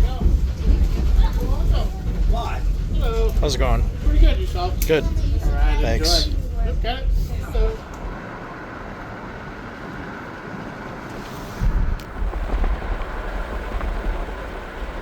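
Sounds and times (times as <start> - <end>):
train coach running on rails: 0.0 - 15.0
wind buffeting microphone: 0.0 - 15.0.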